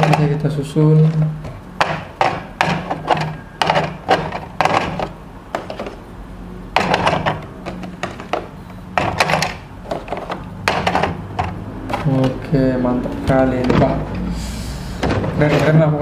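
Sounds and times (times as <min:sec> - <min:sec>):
plastic parts clicking and tapping: 0:00.0 - 0:06.0, 0:06.8 - 0:14.2.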